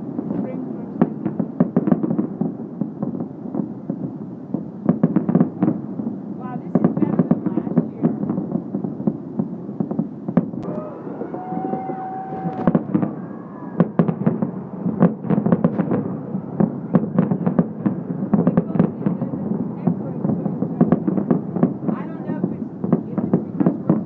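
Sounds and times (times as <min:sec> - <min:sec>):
fireworks bangs: 0:00.0 - 0:24.0
fireworks crackle and rumble: 0:00.0 - 0:24.0.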